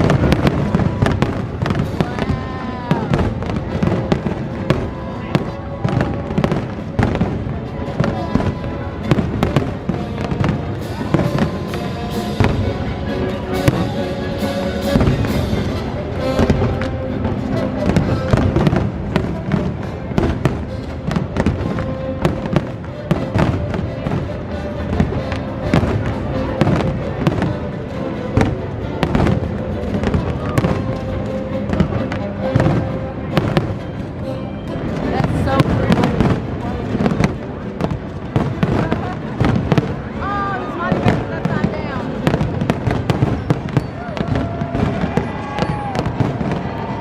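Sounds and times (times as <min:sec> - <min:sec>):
fireworks banging and crackling: 0:00.0 - 0:47.0
music playing: 0:00.0 - 0:47.0.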